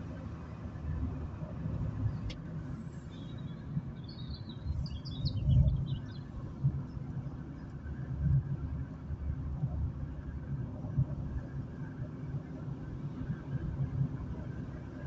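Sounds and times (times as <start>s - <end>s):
car engine rumble from inside: 0.0s - 15.0s.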